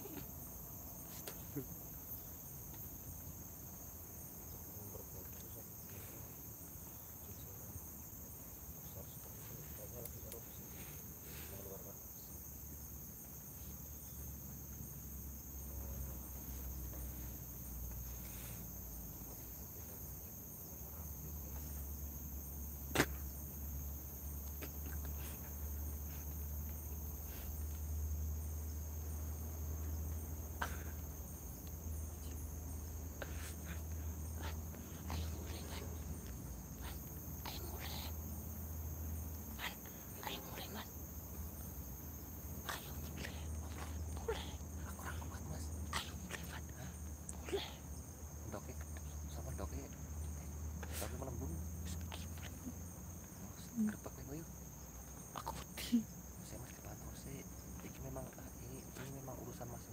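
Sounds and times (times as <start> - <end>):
night insects trilling: 0.0 - 59.9.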